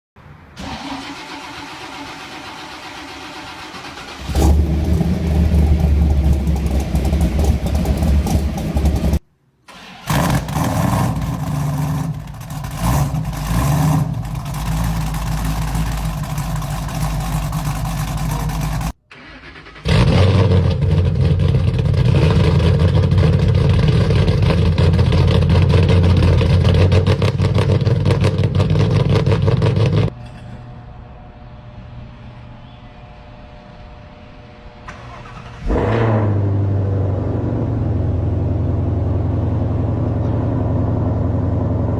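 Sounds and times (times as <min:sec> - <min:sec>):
car engines running loudly: 0:00.3 - 0:09.2, 0:10.1 - 0:19.0, 0:19.8 - 0:30.2, 0:34.6 - 0:41.9
car engine starting: 0:00.3 - 0:30.2, 0:34.6 - 0:41.9.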